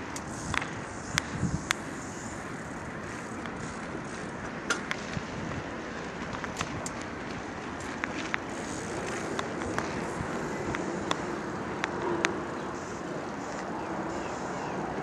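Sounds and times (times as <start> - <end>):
wind noise: 0.0 - 12.8
bicycle rolling noise: 0.0 - 15.0.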